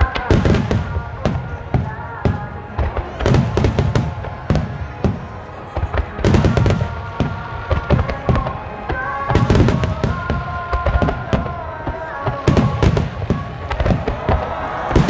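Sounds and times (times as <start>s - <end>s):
fireworks booming and crackling: 0.0s - 15.0s
music with long held notes: 0.0s - 15.0s.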